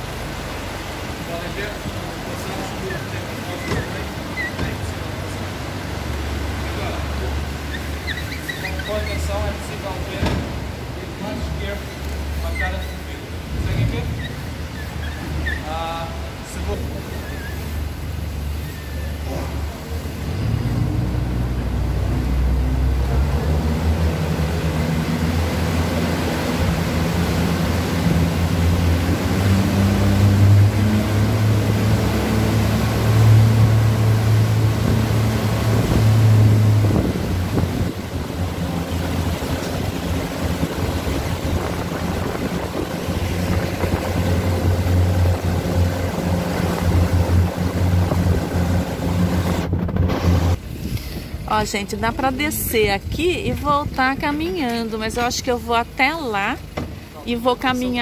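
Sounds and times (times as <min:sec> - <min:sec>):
churning water and wake: 0:00.0 - 0:58.0
motorboat engine running: 0:00.0 - 0:58.0.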